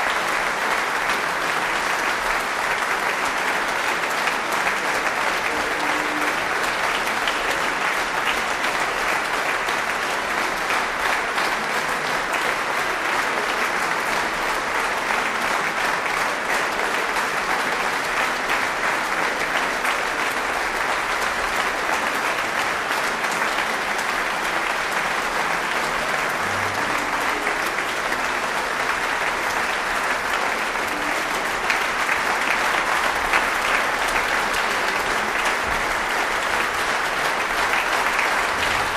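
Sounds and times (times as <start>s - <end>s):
large audience applauding: 0.0s - 38.9s.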